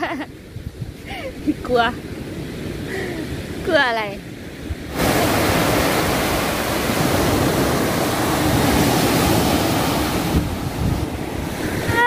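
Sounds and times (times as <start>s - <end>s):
waves breaking on a beach: 0.0s - 12.0s
wind buffeting microphone: 0.0s - 12.0s.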